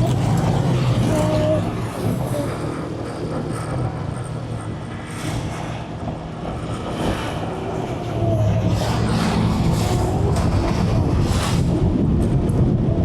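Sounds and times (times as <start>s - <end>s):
road noise: 0.0s - 13.0s
vehicle engine: 0.0s - 13.0s.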